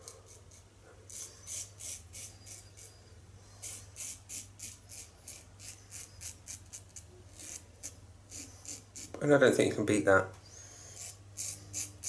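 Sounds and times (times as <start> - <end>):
razor scraping stubble: 0.0 - 9.8, 10.5 - 12.0.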